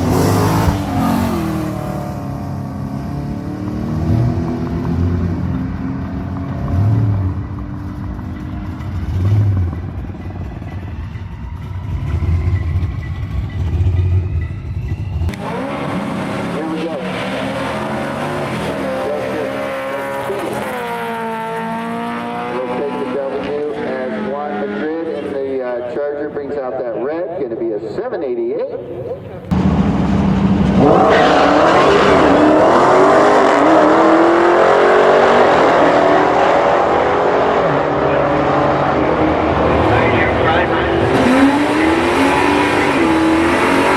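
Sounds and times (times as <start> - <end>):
car engine rumbling: 0.0 - 28.0, 28.7 - 43.9.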